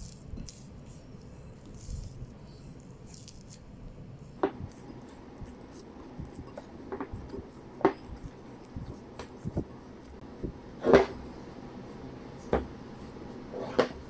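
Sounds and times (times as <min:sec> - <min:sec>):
hands kneading dough squishing: 0:00.0 - 0:14.0.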